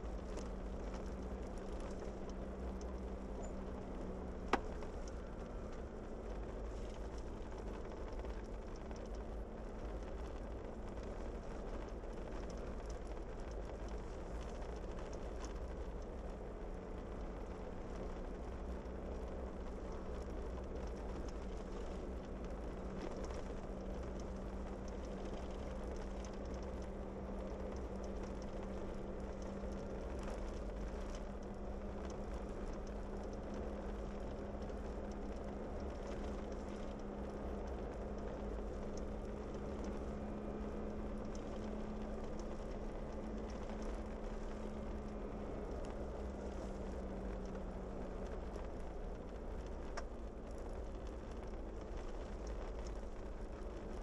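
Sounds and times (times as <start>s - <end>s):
faint ticks: 0.0s - 54.0s
vehicle engine drone: 0.0s - 54.0s.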